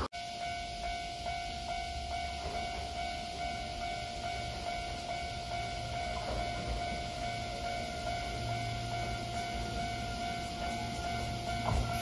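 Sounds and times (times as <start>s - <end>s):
level-crossing alarm ringing: 0.0s - 12.0s.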